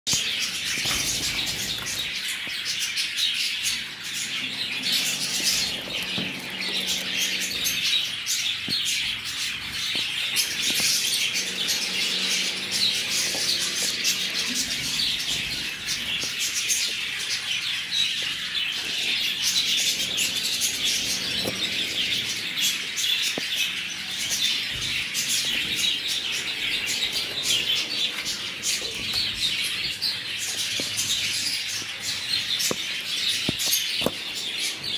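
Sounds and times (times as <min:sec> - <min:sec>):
finches chirping: 0:00.1 - 0:34.9.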